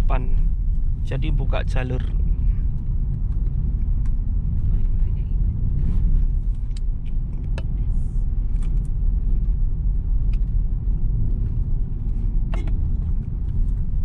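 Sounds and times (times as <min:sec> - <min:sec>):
car engine rumble: 0:00.0 - 0:14.0
tyre road noise: 0:00.0 - 0:14.0.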